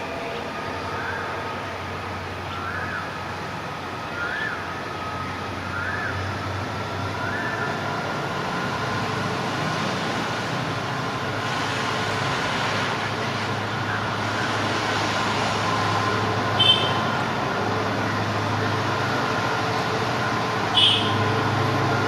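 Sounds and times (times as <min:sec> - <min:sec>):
diesel locomotive engine working: 0:00.0 - 0:22.0.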